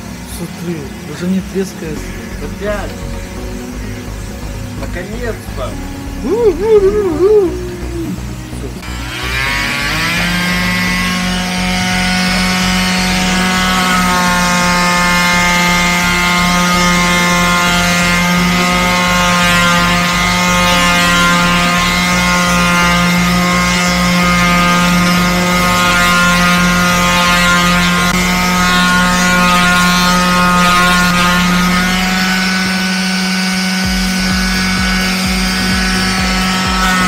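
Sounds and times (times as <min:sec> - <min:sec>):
orbital sander running: 0:00.0 - 0:37.0.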